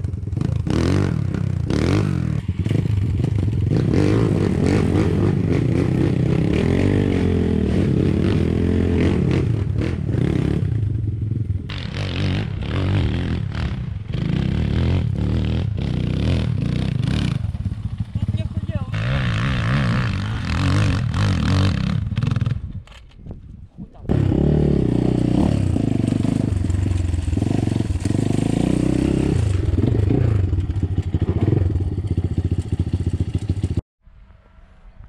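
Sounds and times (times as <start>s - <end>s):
dirt bike engines revving: 0.0s - 22.6s, 24.0s - 33.8s.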